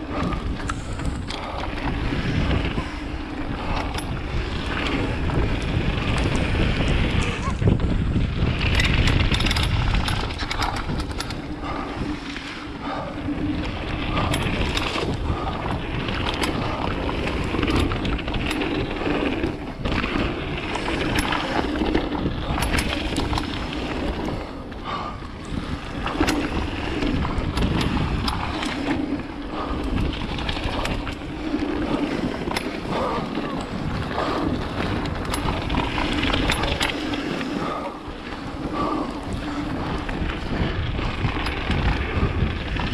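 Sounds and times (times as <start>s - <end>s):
bike clattering and rattling: 0.0s - 42.9s
bike tyre riding noise: 0.0s - 42.9s.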